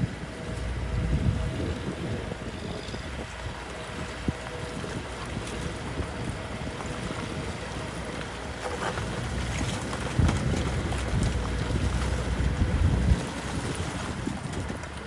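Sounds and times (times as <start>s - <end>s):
bulldozer diesel engine running: 0.0s - 15.0s
wind buffeting microphone: 0.0s - 15.0s.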